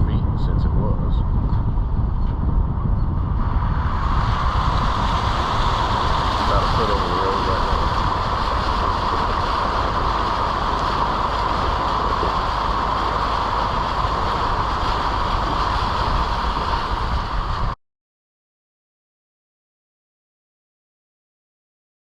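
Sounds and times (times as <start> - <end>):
vehicle road and engine noise: 0.0 - 17.8.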